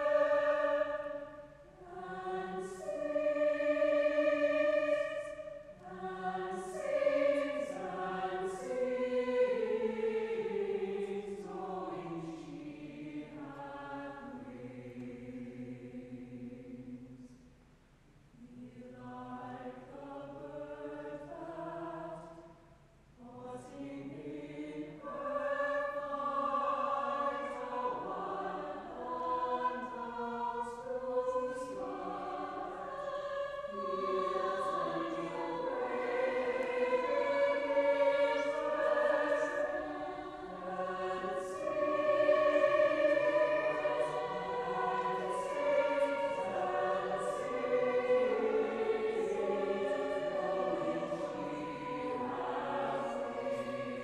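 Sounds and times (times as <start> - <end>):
small choir singing: 0.0 - 17.5, 18.3 - 54.0.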